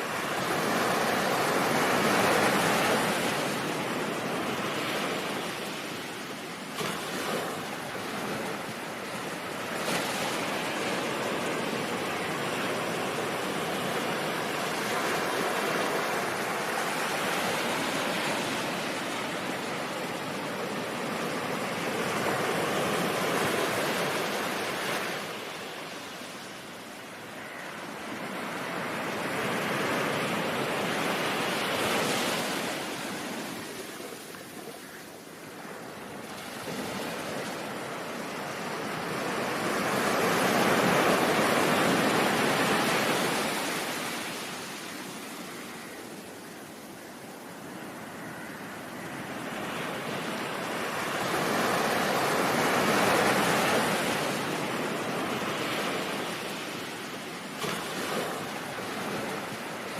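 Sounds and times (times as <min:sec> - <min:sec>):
ocean surf: 0:00.0 - 0:59.9.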